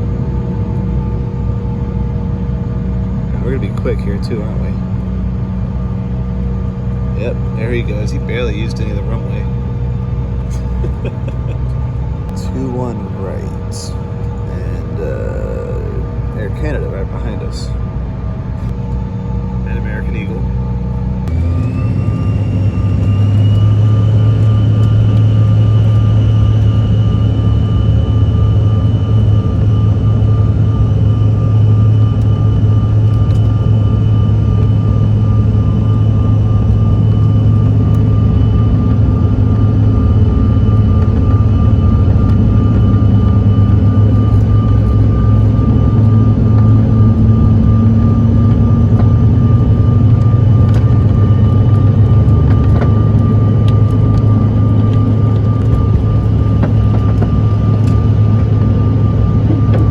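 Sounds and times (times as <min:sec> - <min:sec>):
jet engine whine: 0:00.0 - 0:59.9
loud low engine drone: 0:00.0 - 0:59.9.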